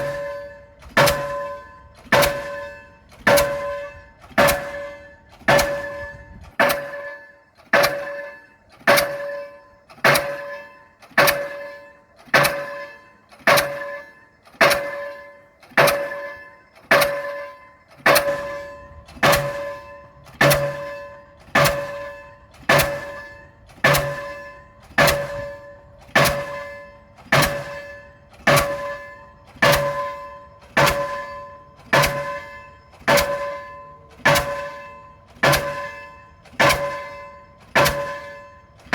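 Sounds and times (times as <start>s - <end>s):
pile hammer blows ringing: 0.0s - 38.9s.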